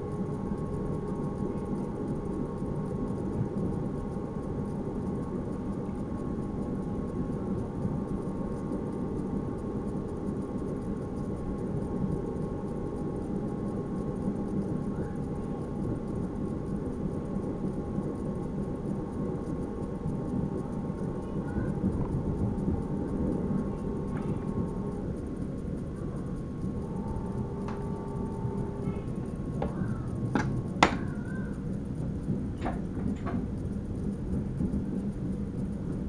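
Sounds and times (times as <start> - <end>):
motor hum: 0.0 - 36.0
train rolling rumble: 0.0 - 36.0.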